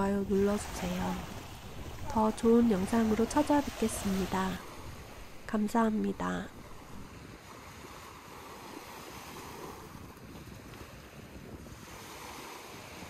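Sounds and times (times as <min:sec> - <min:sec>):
waves washing onto beach: 0:00.0 - 0:13.0
wind rumbling on microphone: 0:00.0 - 0:13.0.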